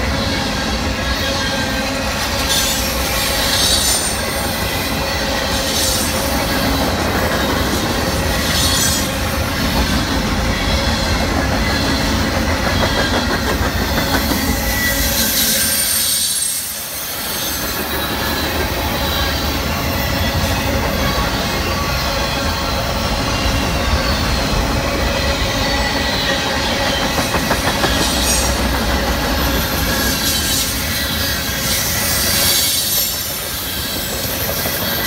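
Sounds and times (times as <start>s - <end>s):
train wheels rumbling on rail: 0.0s - 35.0s
wheel squeals: 0.1s - 35.0s.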